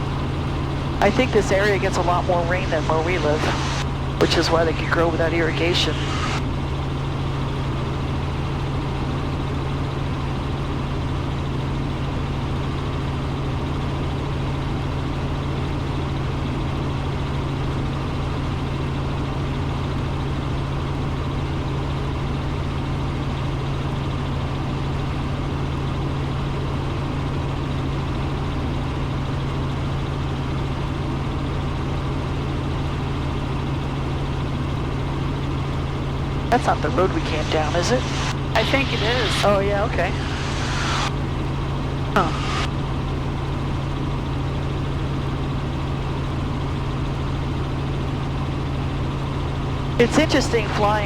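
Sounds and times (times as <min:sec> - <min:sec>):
helicopter engine and rotors droning: 0:00.0 - 0:51.0.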